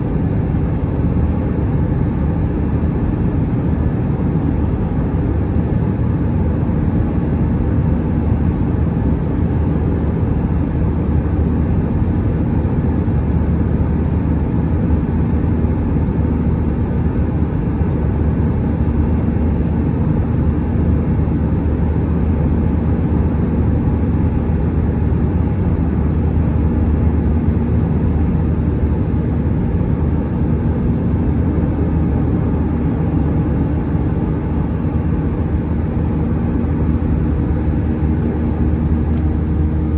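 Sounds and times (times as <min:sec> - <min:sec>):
faint steady hum: 0:00.0 - 0:39.9
jet engine cabin drone: 0:00.0 - 0:39.9.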